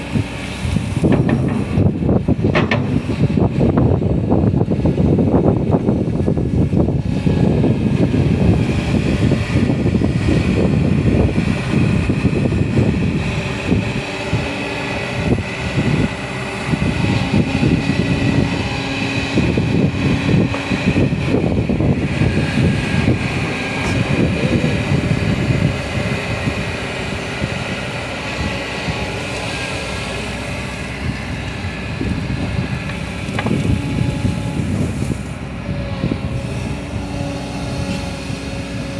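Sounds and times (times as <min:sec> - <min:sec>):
excavator engine rumbling: 0:00.0 - 0:38.9.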